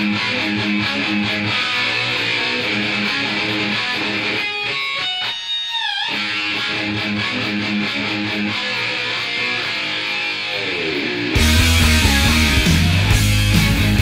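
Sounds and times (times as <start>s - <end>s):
rock music with electric guitar: 0.0s - 14.0s.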